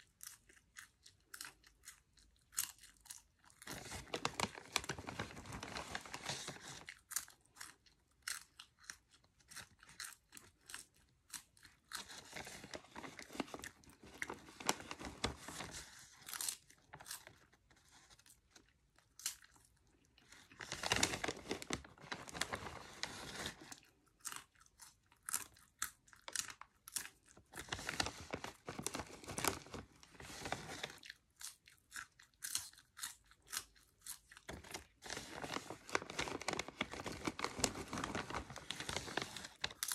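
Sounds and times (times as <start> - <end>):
popcorn crunching: 0.0 - 15.5, 16.2 - 23.0, 23.6 - 39.9.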